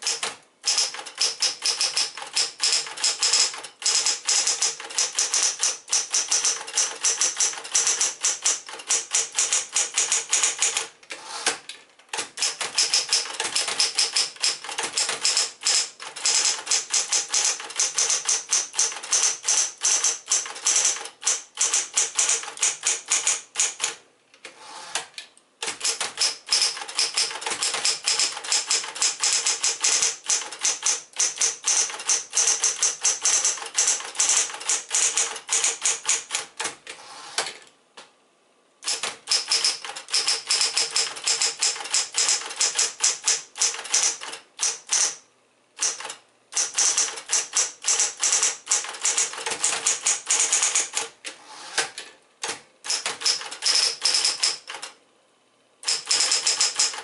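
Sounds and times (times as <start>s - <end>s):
electric typewriter keystroke clacks: 0.0s - 24.0s, 24.9s - 37.6s, 38.8s - 45.2s, 45.8s - 51.2s, 51.8s - 55.0s, 55.8s - 57.0s.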